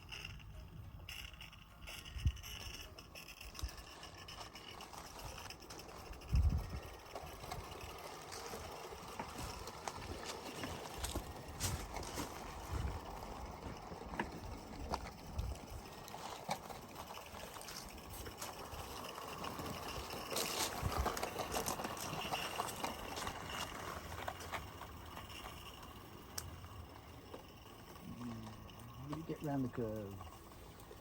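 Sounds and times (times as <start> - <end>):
wheels clicking on rails: 0.0 - 31.0.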